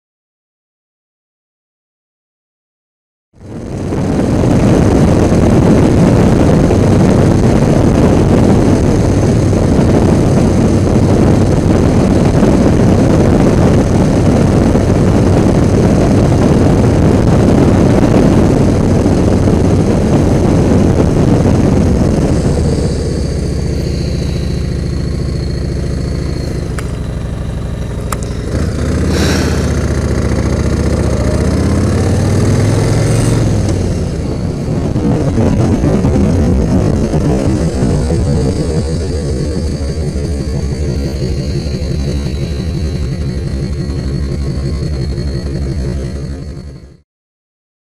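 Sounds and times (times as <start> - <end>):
road and wind noise: 3.3 - 47.0
motorcycle engine: 3.4 - 47.0.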